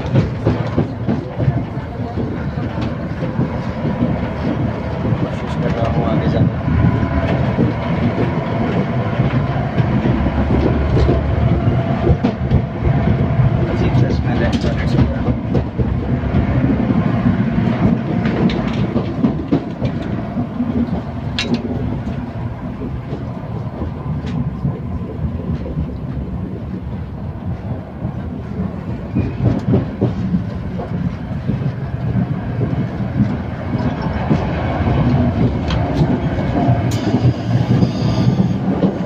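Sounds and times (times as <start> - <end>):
train rumbling on track: 0.0 - 39.0.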